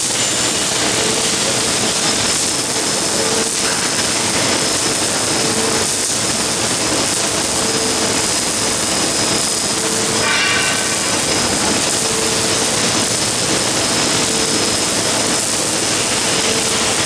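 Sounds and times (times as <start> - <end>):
welding arc hissing: 0.0 - 17.0.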